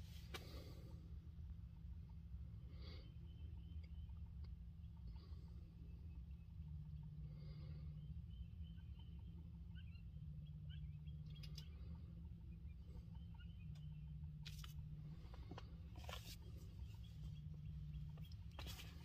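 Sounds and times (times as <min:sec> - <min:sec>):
low hum: 0:00.0 - 0:19.0
faint bird-like chirps: 0:02.6 - 0:19.0.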